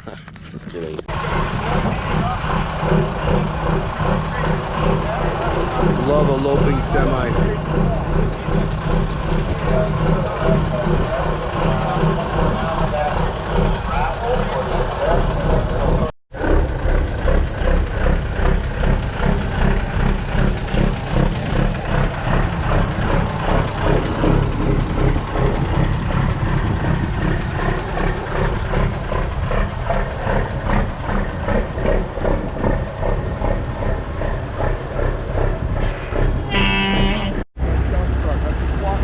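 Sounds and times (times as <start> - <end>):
diesel truck engine idling: 1.1 - 39.0.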